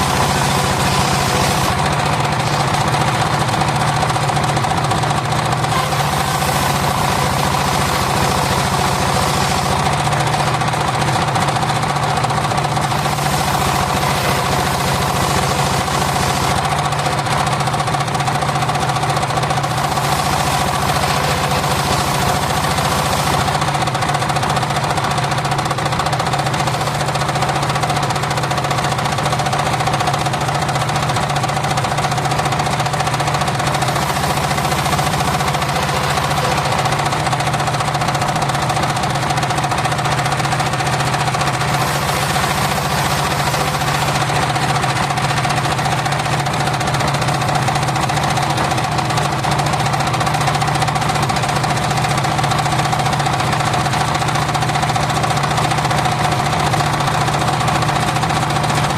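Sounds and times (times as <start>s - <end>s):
sawmill engine droning: 0.0s - 58.9s.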